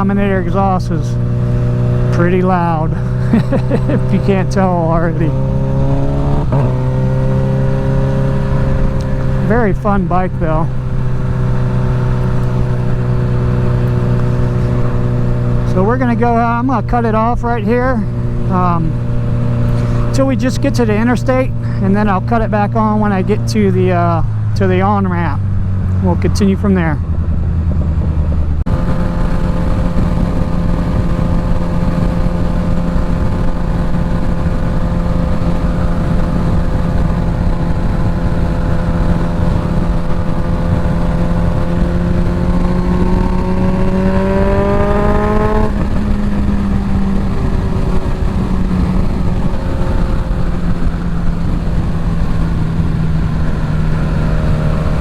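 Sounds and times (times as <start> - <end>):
motorcycle engine revving: 0.0 - 55.0
wind rushing: 4.0 - 17.2, 23.0 - 55.0.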